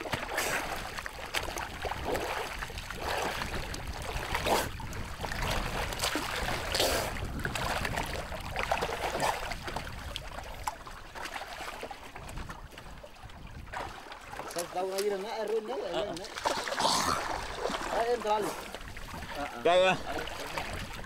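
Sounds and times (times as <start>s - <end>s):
swimmer's strokes splashing water: 0.0s - 12.3s, 16.2s - 21.0s.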